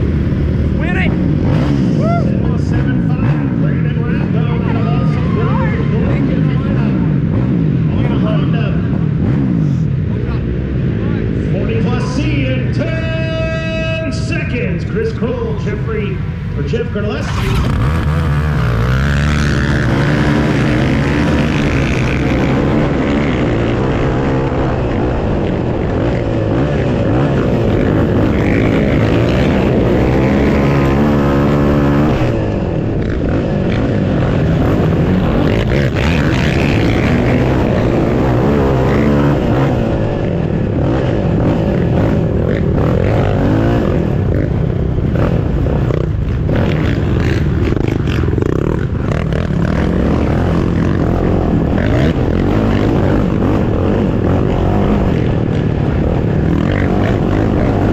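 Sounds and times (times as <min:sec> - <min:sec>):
quad bike engine revving: 0:00.0 - 0:15.7, 0:16.7 - 0:57.9.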